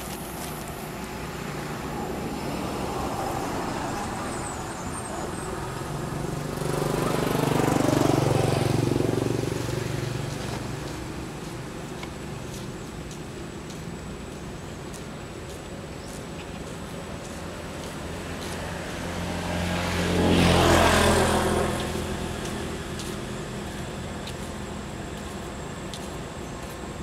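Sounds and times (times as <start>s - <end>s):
vehicle engine hum passing: 0.0s - 27.0s.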